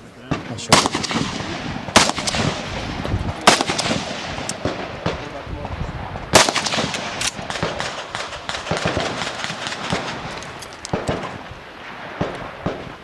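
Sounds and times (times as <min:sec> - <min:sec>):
gunshots: 0:00.3 - 0:13.0.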